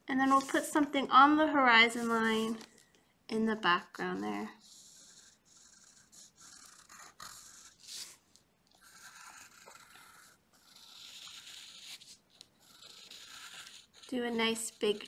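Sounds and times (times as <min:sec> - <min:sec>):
pencil scratching on paper: 0:00.1 - 0:02.7, 0:03.4 - 0:15.0.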